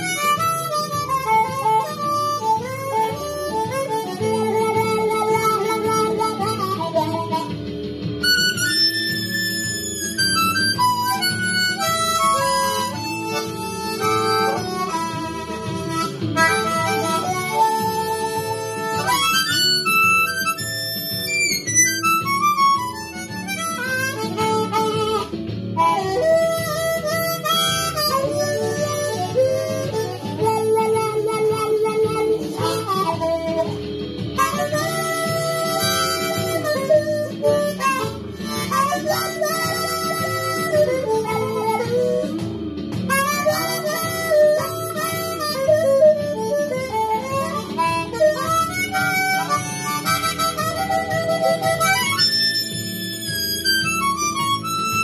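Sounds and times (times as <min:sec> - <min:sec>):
acoustic guitar backing: 0:00.0 - 0:55.0
blues harmonica: 0:00.0 - 0:55.0.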